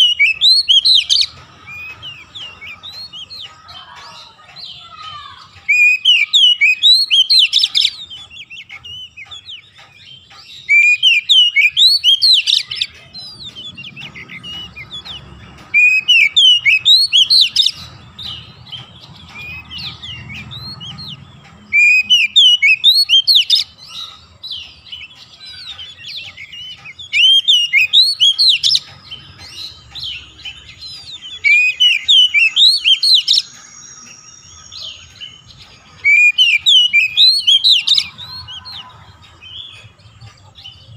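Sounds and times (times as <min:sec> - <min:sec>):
bird singing rapid chirps: 0:00.0 - 0:40.9
faint bird twittering: 0:00.0 - 0:40.9.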